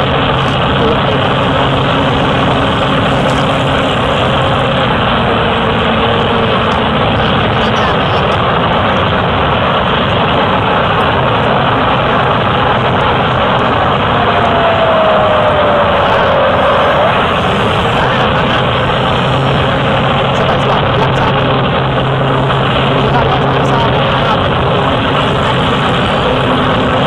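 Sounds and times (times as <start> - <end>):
light aircraft engine and propeller: 0.0 - 27.0.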